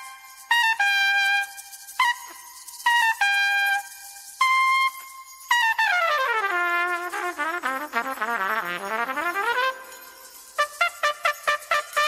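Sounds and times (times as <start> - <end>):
jazz trumpet phrases: 0.0 - 2.3, 2.9 - 12.0.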